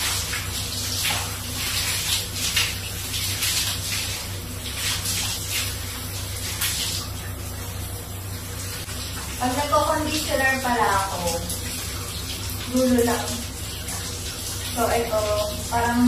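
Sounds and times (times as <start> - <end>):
shower water spraying: 0.0 - 16.0.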